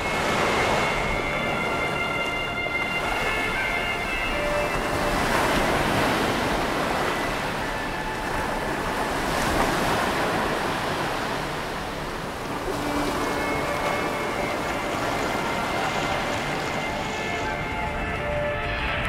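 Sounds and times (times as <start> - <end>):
waves breaking: 0.0 - 19.0.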